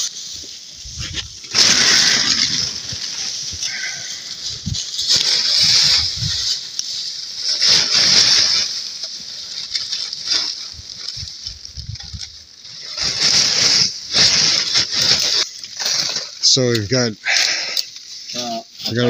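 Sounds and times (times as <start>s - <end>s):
plastic tarp crinkling: 0.0s - 19.0s
snow sliding off tarp: 0.0s - 19.0s.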